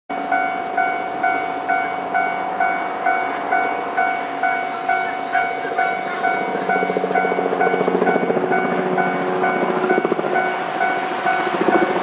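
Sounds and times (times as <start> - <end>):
level crossing warning bell: 0.1 - 12.0.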